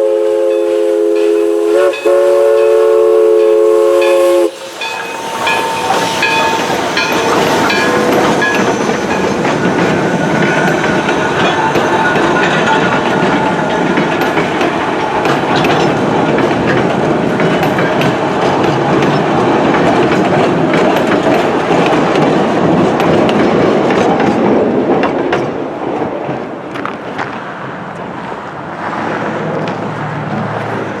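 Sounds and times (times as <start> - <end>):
train wheels clacking over rail joints: 0.5 - 31.0.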